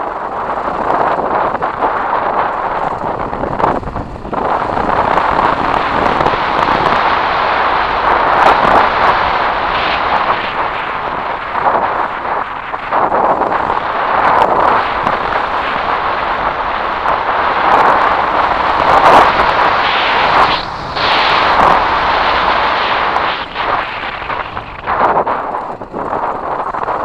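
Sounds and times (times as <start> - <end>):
motorcycle engine running: 0.0 - 27.0
wind rush on microphone: 0.0 - 27.0.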